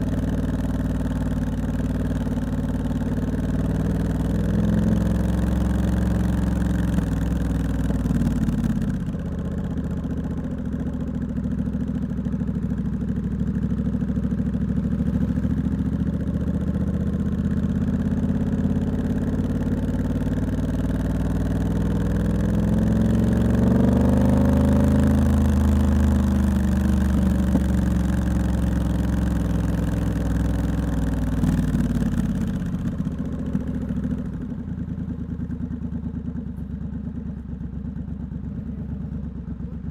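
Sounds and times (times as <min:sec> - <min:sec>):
motorcycle engine with loud exhaust: 0:00.0 - 0:39.9.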